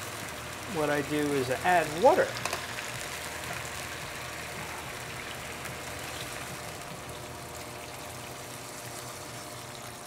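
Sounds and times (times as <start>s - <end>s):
pan sizzling: 0.0s - 10.0s
water trickling into wok: 0.0s - 10.0s.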